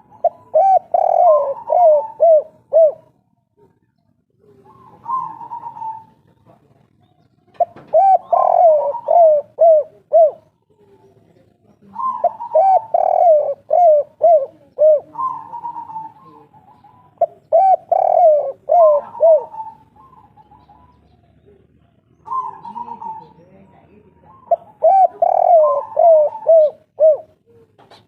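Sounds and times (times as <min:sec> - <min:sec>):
dove cooing: 0:00.0 - 0:06.4, 0:07.0 - 0:28.0.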